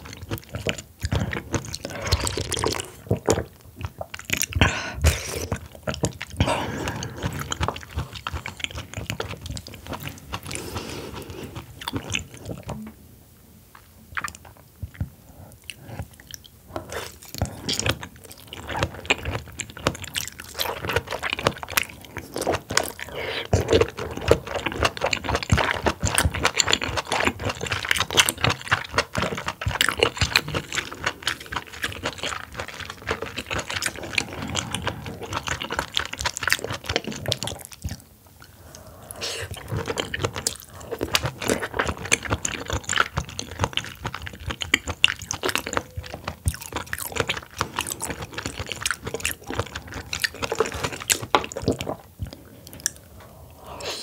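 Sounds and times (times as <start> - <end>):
wet chewing clicks and crackles: 0.0 - 12.9, 13.7 - 54.0.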